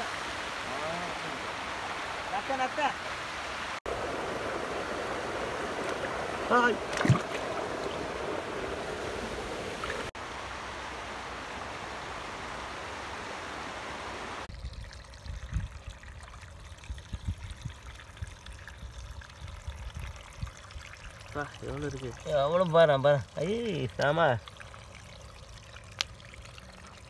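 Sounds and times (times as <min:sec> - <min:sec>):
stream water running: 0:00.0 - 0:27.0.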